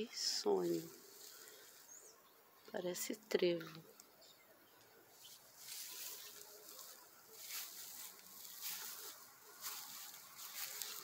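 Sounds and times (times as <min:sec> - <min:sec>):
faint hissy rustling: 0:00.0 - 0:11.0.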